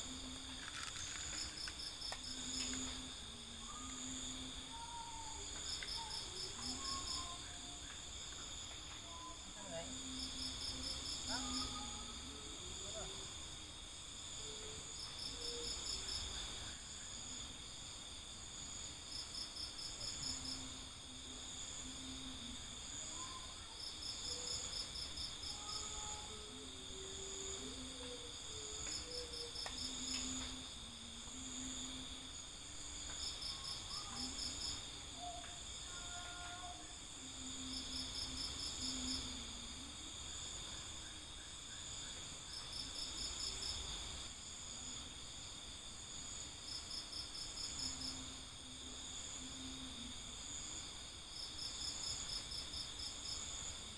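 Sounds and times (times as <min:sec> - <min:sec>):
insect pulsed call: 0:00.0 - 0:53.9
insects chirring: 0:00.0 - 0:53.9.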